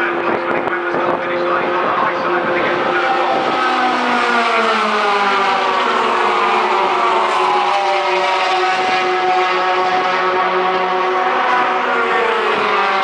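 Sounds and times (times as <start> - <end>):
racing truck engines passing: 0.0 - 13.0.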